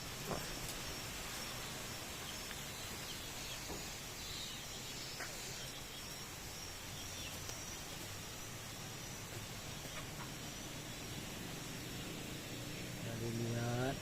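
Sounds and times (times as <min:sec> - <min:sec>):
faint high insect drone: 0:00.0 - 0:14.0
strong wind through trees: 0:00.0 - 0:14.0.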